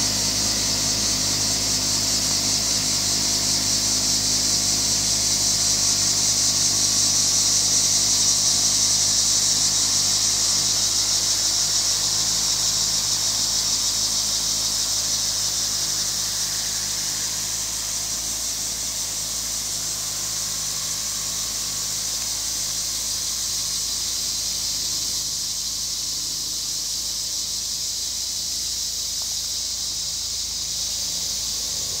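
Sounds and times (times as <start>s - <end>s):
crickets and cicadas buzzing: 0.0s - 32.0s
low tractor engine hum: 0.0s - 32.0s.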